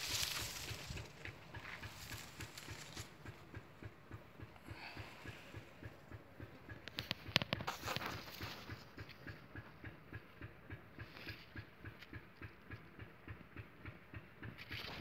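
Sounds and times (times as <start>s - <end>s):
faint rhythmic thudding: 0.1s - 14.6s.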